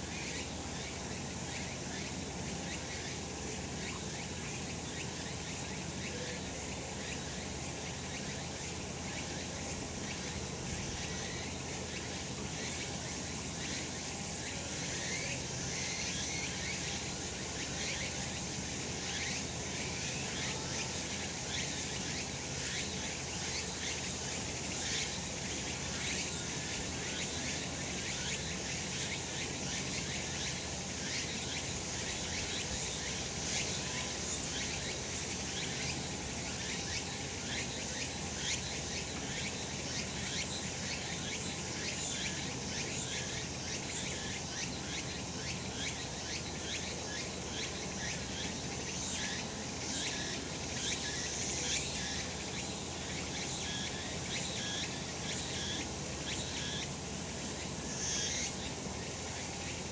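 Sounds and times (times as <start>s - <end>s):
cicadas chorus: 0.0s - 59.9s.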